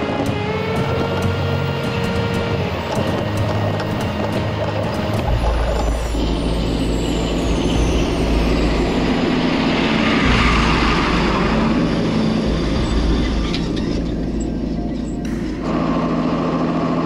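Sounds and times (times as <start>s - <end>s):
tractor diesel engine passing: 0.0s - 17.0s.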